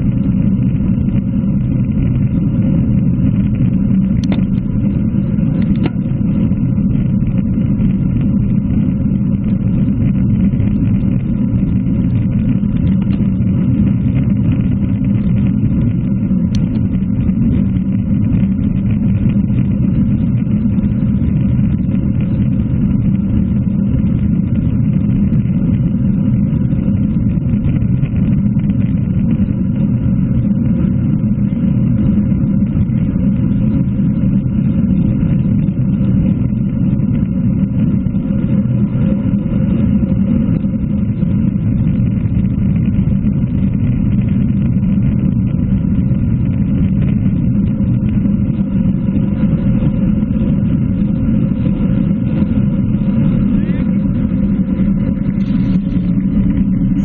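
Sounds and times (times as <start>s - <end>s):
wind rumble on microphone: 0.0s - 57.0s.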